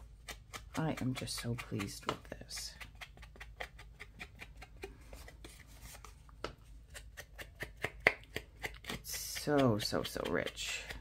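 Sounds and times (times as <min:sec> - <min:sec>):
foam tool tapping cardboard: 0:00.2 - 0:05.6, 0:06.4 - 0:11.0.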